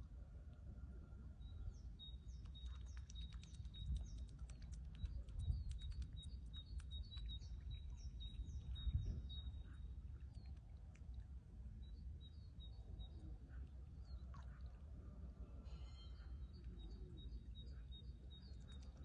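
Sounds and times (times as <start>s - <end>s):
low steady rumble: 0.0s - 19.0s
small birds chirping: 1.4s - 14.9s, 15.7s - 19.0s.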